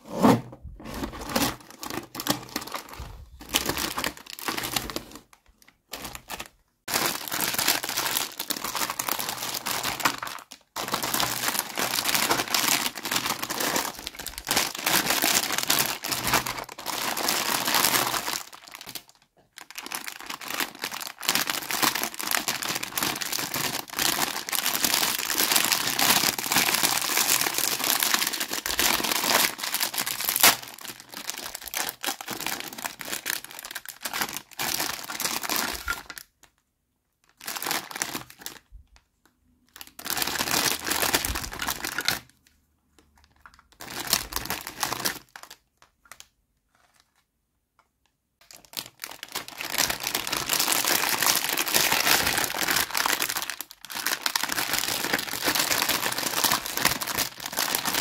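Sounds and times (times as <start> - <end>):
plastic bags crinkling: 0.7 - 36.5, 37.2 - 38.7, 39.7 - 42.4, 43.3 - 47.2, 48.4 - 58.0.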